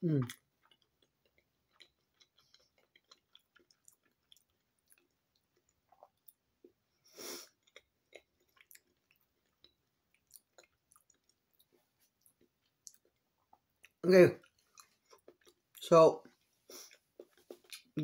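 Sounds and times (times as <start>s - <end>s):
faint chewing: 0.1s - 18.0s.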